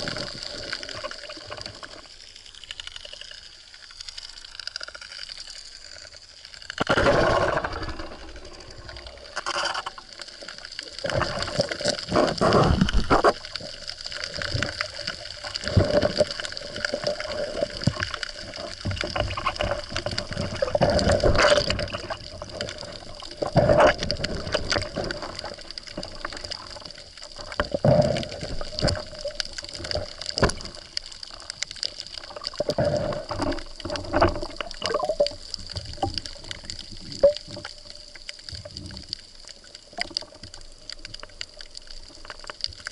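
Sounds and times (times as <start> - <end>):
underwater swishing and gurgling: 0.0 - 42.9.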